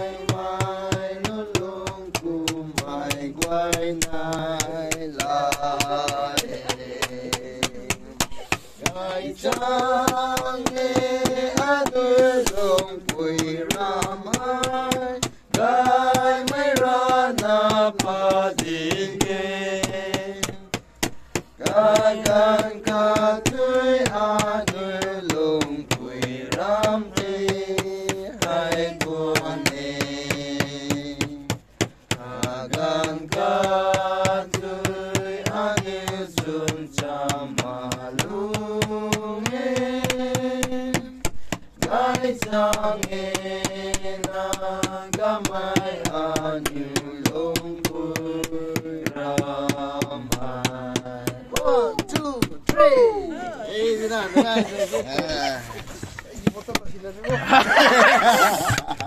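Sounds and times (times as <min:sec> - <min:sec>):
steady beat of clicks: 0:00.0 - 0:59.0.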